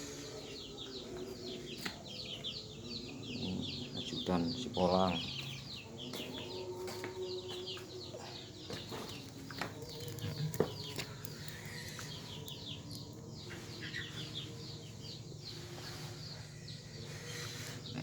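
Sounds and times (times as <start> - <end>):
chicks chirping: 0.0 - 18.0.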